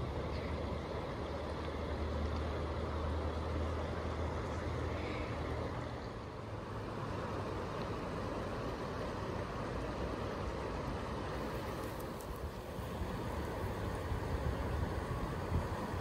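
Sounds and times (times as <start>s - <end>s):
river current rushing: 0.0s - 16.0s.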